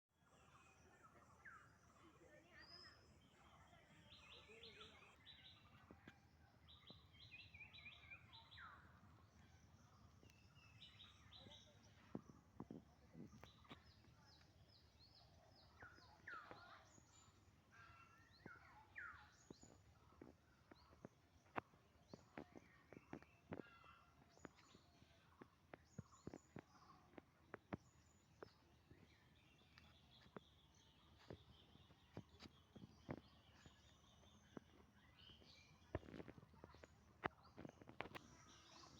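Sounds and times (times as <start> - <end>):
faint birdsong: 0.1 - 38.9.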